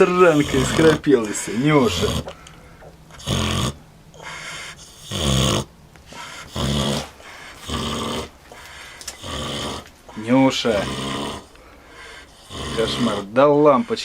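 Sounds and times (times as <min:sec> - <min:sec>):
pig snoring: 0:00.0 - 0:02.4, 0:03.1 - 0:14.0
pig breathing: 0:00.0 - 0:14.0.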